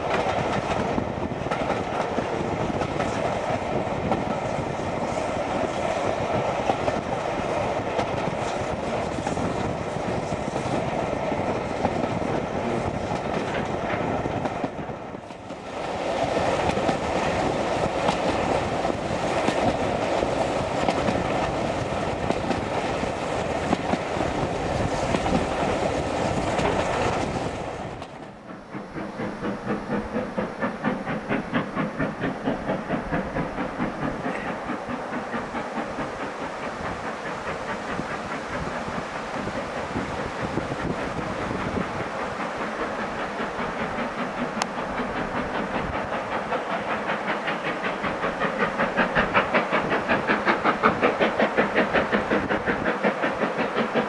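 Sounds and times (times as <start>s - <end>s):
train running noise: 0.0s - 54.0s
train wheels clattering over rail joints: 0.0s - 54.0s.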